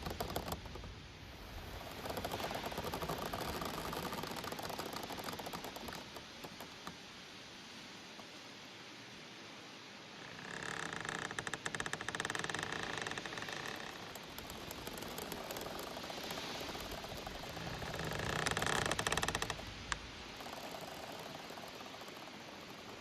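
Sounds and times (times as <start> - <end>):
bamboo stems creaking: 0.0 - 7.0, 10.1 - 23.0
bamboo rustling: 0.0 - 8.6, 10.1 - 23.0.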